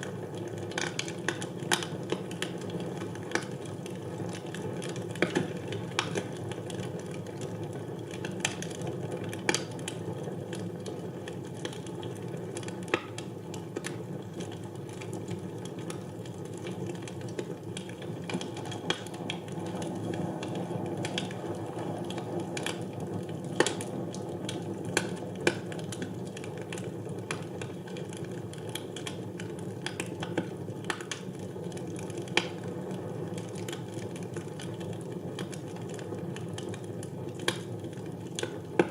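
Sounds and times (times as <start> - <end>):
low noise of flames: 0.0 - 38.9
wood fire crackling and popping: 0.0 - 38.9.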